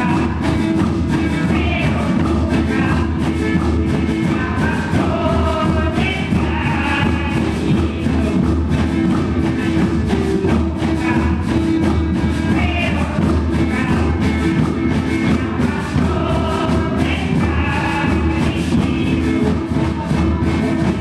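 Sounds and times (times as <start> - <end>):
group of voices singing: 0.0 - 21.0
hand drums playing rhythm: 0.0 - 21.0.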